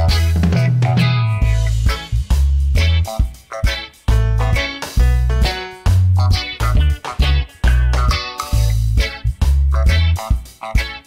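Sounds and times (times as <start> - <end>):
bass and guitar music with beat: 0.0 - 11.0.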